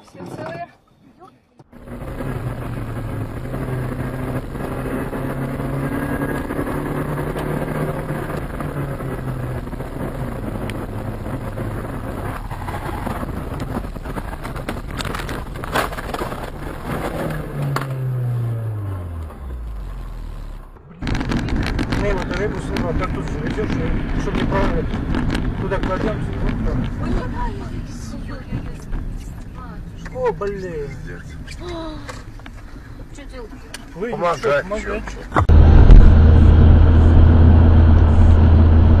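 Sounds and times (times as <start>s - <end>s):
car engine running: 1.7s - 39.0s.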